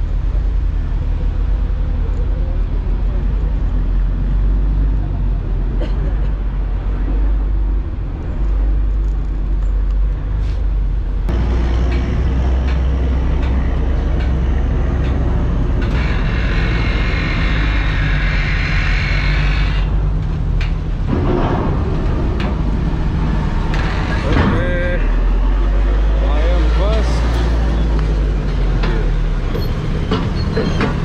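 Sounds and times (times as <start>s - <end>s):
ferry engine rumble: 0.0s - 31.0s.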